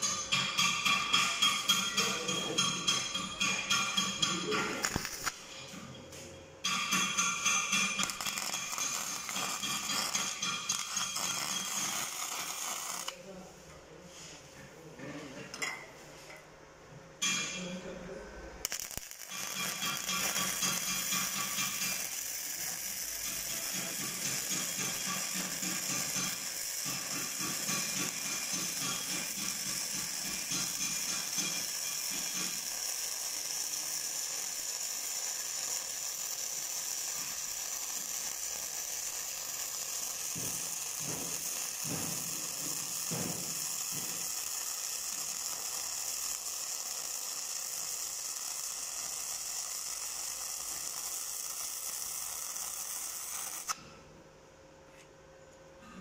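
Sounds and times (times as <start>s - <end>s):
welding arc crackling and hissing: 0.0s - 5.8s, 6.6s - 13.3s, 17.2s - 17.6s, 18.6s - 53.8s.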